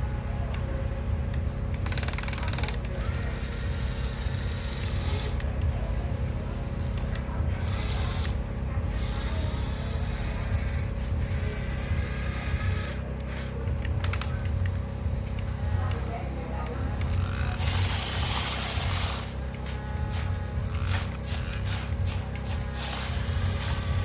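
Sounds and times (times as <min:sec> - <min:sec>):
steady low rumble: 0:00.0 - 0:02.0, 0:02.6 - 0:24.0
small motors whirring: 0:00.0 - 0:24.0.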